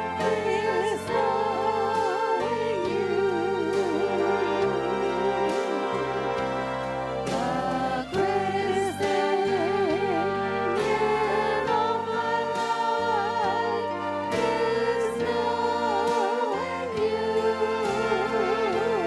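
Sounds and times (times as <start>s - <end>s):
person singing with vibrato: 0.0s - 19.0s
sustained instrumental chords: 0.0s - 19.0s.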